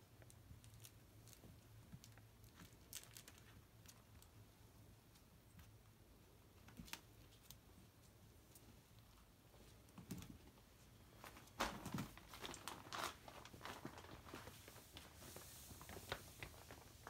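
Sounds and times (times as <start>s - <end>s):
crinkling and rustling: 0.0s - 5.9s, 6.5s - 17.0s.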